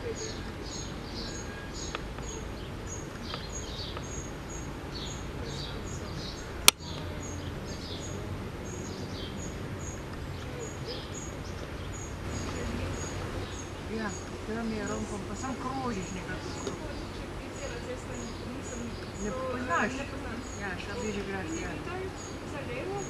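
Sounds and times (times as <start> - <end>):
low outdoor background rumble: 0.0 - 23.0
small birds chirping: 0.0 - 23.0.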